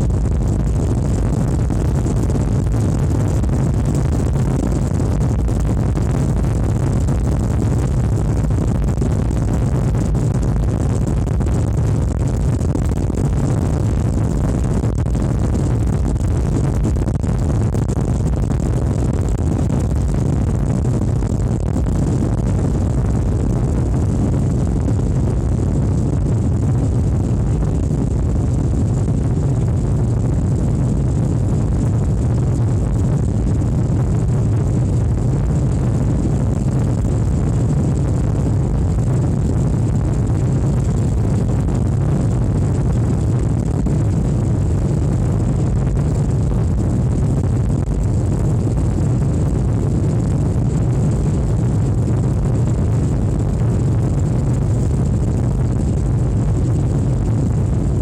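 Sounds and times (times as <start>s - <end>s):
jet engines roaring inside cabin: 0.0s - 58.0s.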